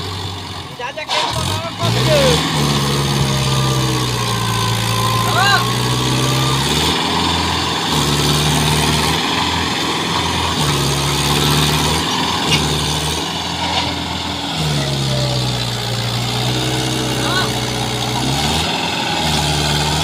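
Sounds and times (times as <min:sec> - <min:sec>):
tractor diesel engine straining: 0:00.0 - 0:20.0.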